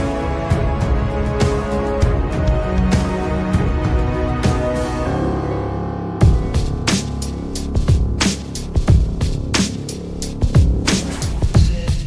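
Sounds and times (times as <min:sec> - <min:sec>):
sustained music notes: 0:00.0 - 0:11.6.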